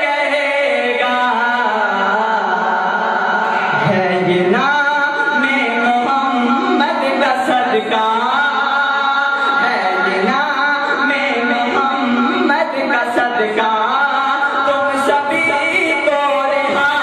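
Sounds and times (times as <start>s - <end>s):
man singing melodic phrases: 0.0s - 17.0s.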